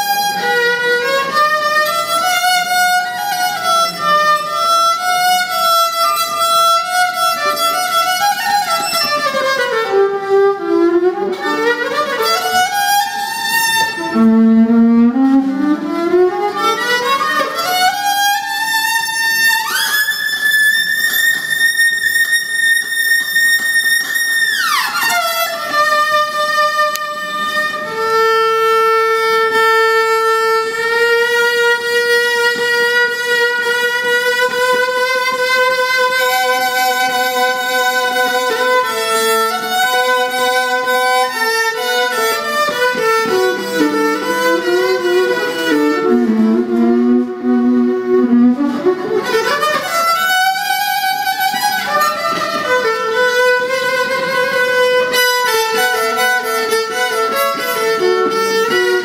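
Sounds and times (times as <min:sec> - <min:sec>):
electric violin melody: 0:00.0 - 0:59.0.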